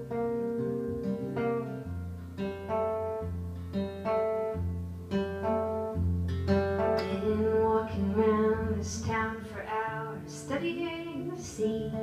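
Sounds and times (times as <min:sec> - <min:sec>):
acoustic guitar picking chords: 0:00.0 - 0:12.0.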